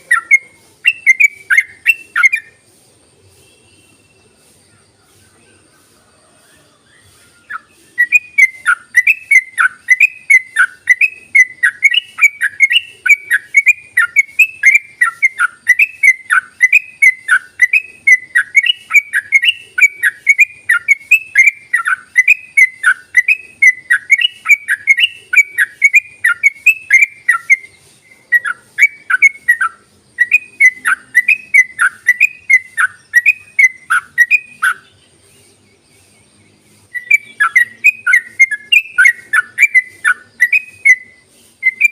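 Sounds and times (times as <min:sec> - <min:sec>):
bird singing rapid whistled notes: 0:00.0 - 0:41.9.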